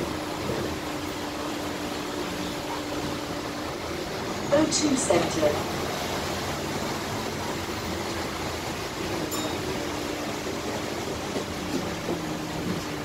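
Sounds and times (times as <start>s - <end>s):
bus cabin rumble and hiss: 0.0s - 13.0s.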